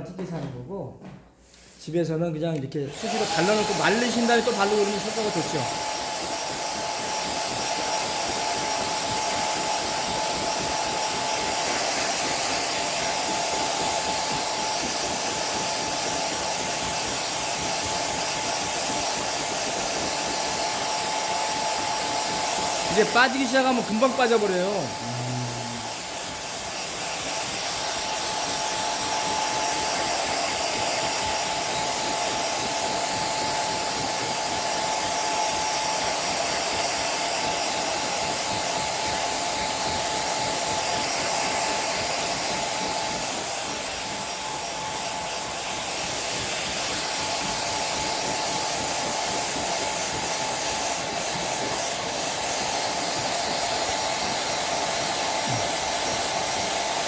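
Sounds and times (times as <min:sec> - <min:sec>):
hair dryer blowing: 0:02.6 - 0:57.0.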